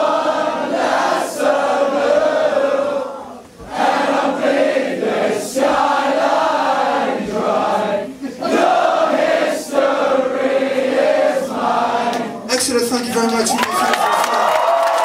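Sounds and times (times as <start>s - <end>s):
crowd singing in unison: 0.0s - 12.5s.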